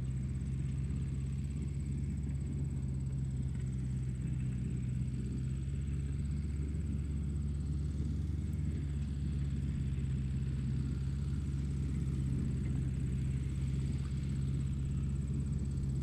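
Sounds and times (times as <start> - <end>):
motor droning hum: 0.0 - 16.0.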